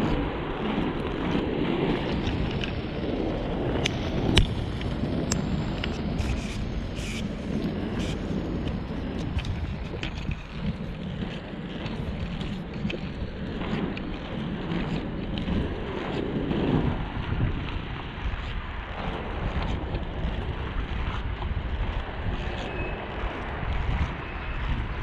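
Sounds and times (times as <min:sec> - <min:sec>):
skate wheels rolling on asphalt: 0:00.0 - 0:25.0
wind buffeting microphone: 0:00.0 - 0:25.0.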